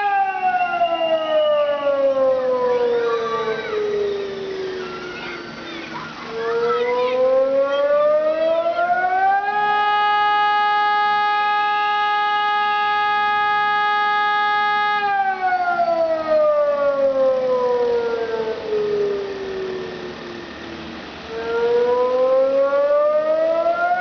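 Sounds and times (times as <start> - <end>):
civil defence siren wailing: 0.0 - 24.0.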